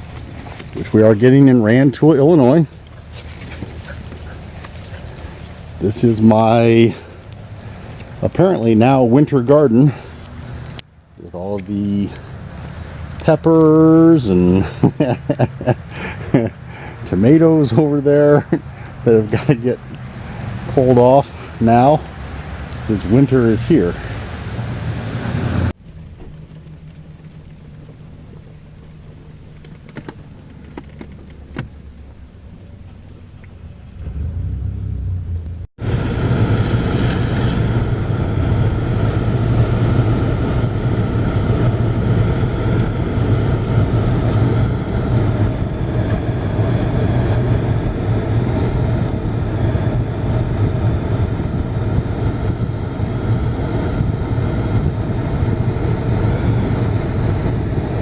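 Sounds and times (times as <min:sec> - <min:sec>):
low engine-like rumble: 0:00.0 - 0:58.0.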